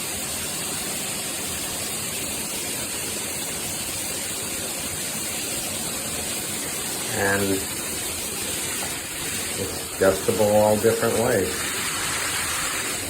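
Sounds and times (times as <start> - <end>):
shower water rushing: 0.0 - 13.0.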